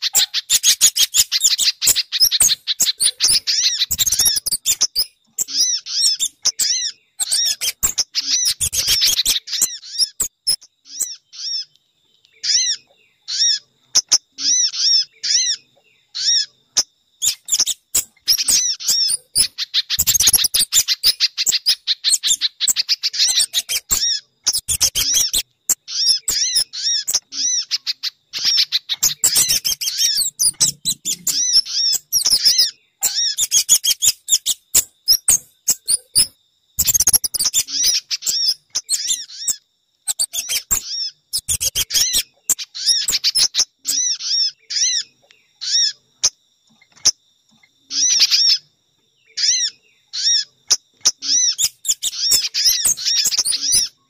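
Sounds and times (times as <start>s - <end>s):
high sharp bird chirps: 0.0s - 46.4s, 49.4s - 54.0s.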